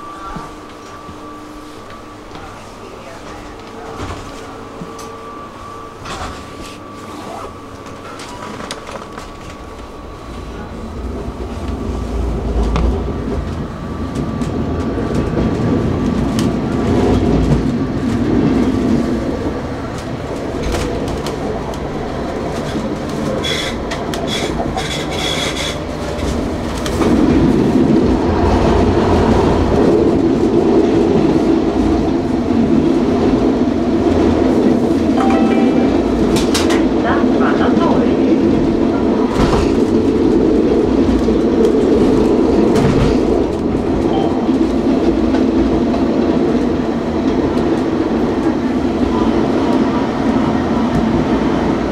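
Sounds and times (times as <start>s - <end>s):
tram wheels rumbling on track: 0.0s - 51.9s.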